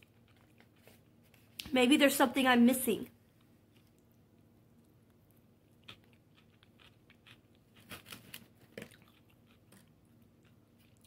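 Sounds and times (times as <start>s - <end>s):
crunchy chicken chewing: 0.0s - 1.6s, 3.3s - 11.0s.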